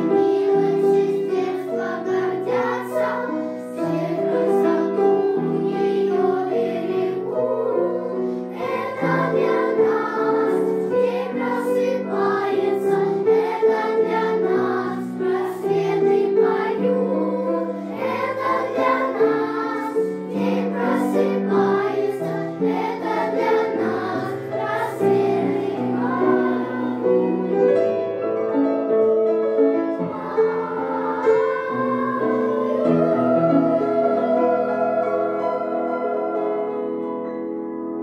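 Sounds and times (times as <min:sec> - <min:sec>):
children's choir singing: 0:00.0 - 0:27.8, 0:29.8 - 0:37.7
piano accompaniment: 0:00.0 - 0:38.0.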